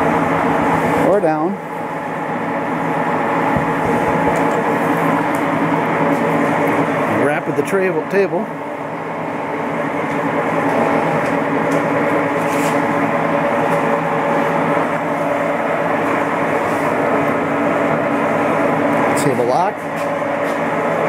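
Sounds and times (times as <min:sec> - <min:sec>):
milling machine feed motor humming: 0:00.0 - 0:21.0.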